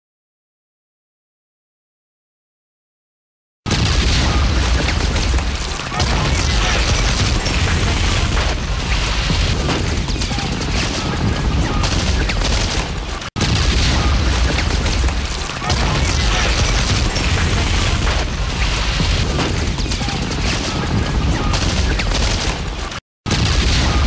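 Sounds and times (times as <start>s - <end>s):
explosions booming: 3.7s - 24.0s
gunfire bursts: 3.7s - 24.0s.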